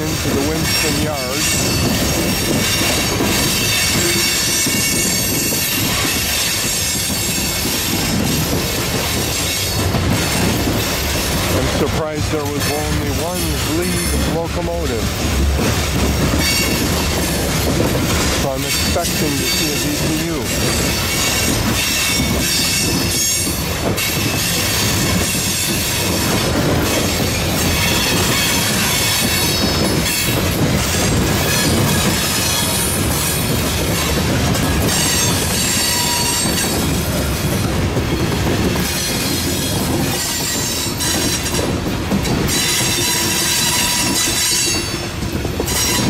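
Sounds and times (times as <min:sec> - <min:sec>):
steel wheels clattering on rails: 0:00.0 - 0:46.0.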